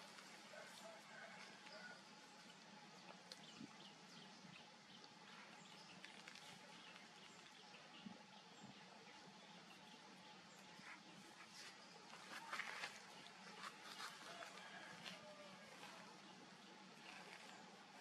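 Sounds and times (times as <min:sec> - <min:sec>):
faint ticks and chirps: 0:00.0 - 0:18.0.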